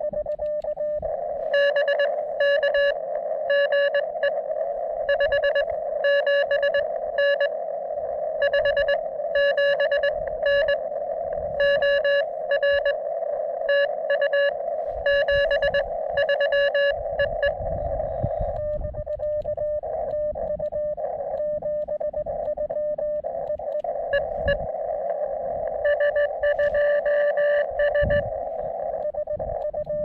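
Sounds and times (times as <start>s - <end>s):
morse code tone: 0.0s - 7.6s, 8.4s - 30.0s
radio receiver hiss: 0.0s - 30.0s.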